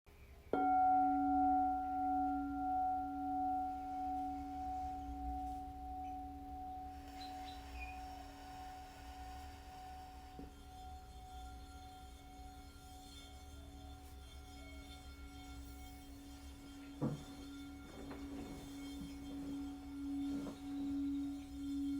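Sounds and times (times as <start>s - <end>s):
singing bowl ringing: 0.5s - 21.9s.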